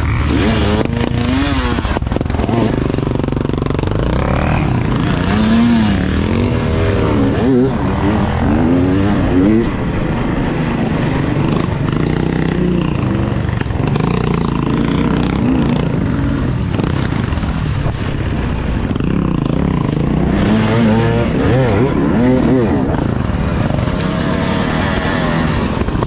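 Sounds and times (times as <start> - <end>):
quad bike engines running: 0.0 - 26.0.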